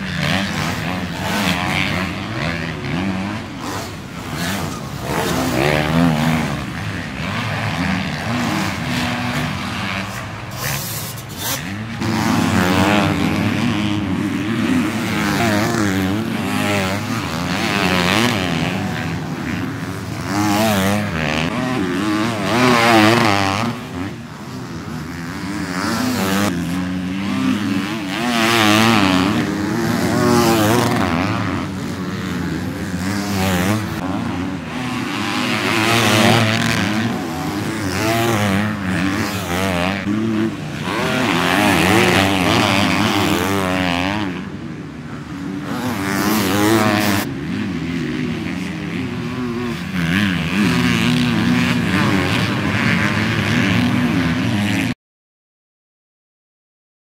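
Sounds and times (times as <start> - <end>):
motocross bikes revving past: 0.0 - 55.0.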